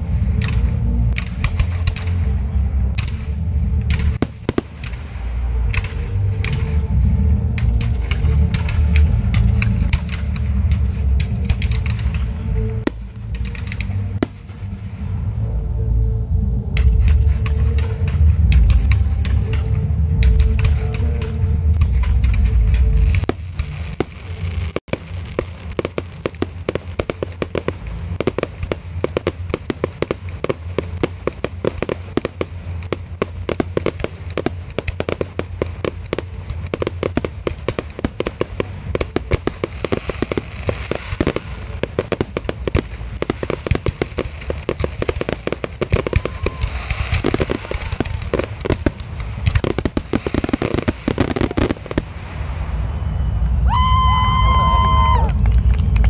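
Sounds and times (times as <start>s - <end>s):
fireworks bangs: 0.0s - 14.8s, 16.8s - 56.0s
fireworks crackle: 0.0s - 15.4s, 16.6s - 56.0s.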